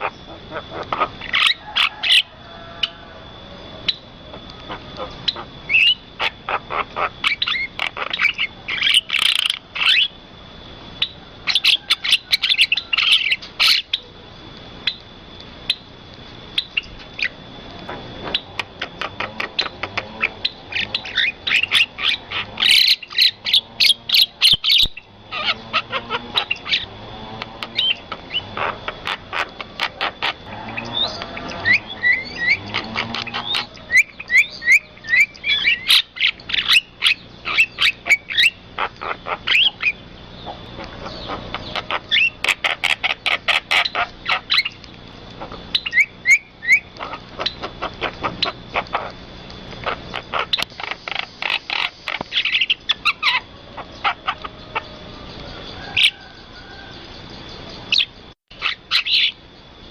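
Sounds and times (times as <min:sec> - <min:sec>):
birds chirping and whistling: 0:00.0 - 0:10.2, 0:10.9 - 0:14.2, 0:14.8 - 0:59.9.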